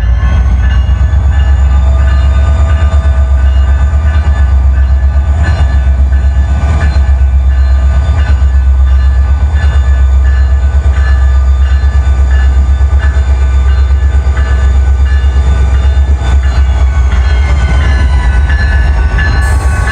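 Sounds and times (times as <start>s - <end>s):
diesel locomotive engine rumble: 0.0s - 19.9s.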